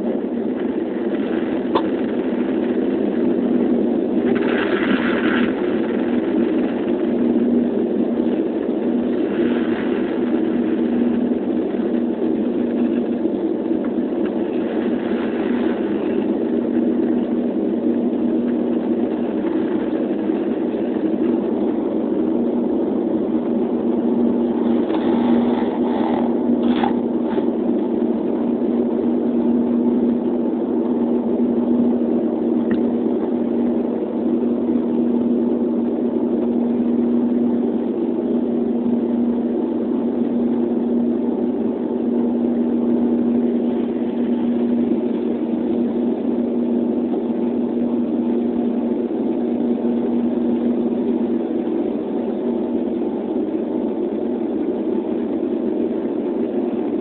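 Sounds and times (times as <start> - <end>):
propeller drone in aircraft cabin: 0.0 - 57.0.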